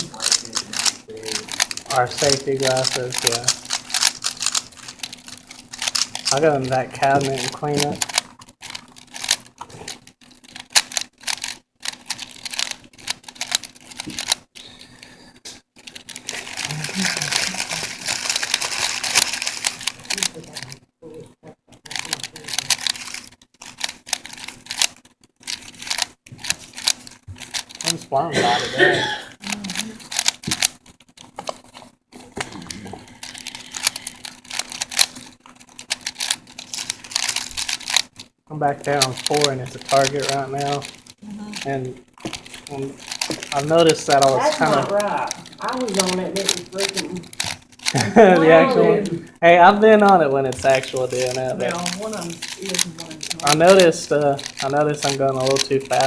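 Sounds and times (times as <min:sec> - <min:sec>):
plastic puzzle cube layers clicking: 0:00.0 - 0:14.5, 0:15.8 - 0:20.8, 0:21.8 - 0:28.0, 0:29.8 - 0:31.8, 0:32.4 - 0:48.4, 0:49.7 - 0:56.0.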